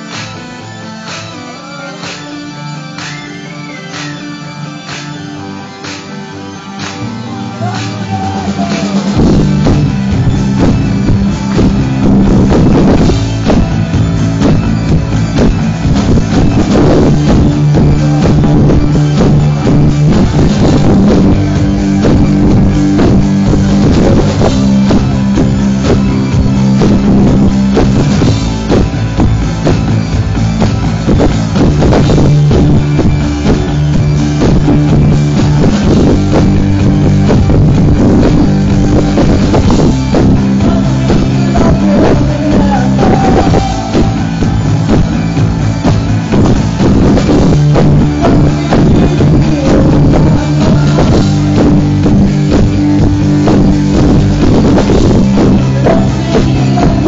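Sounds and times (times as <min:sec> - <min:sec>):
rock band playing live: 0:00.0 - 0:57.0
drum kit hits: 0:08.6 - 0:55.7.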